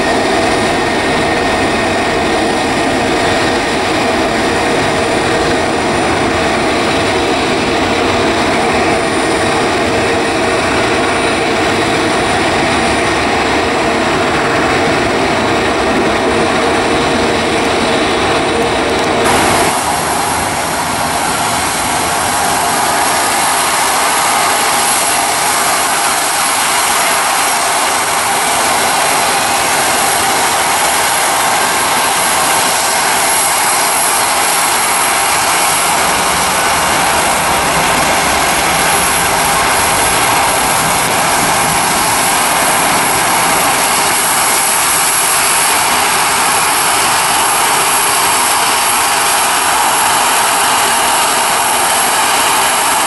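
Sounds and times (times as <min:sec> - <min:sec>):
jet engines at takeoff thrust: 0:00.0 - 0:53.0.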